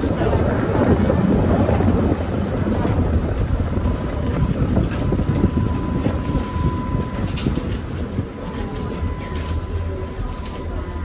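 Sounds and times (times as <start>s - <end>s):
streetcar wheels rumbling on rails: 0.0s - 11.0s.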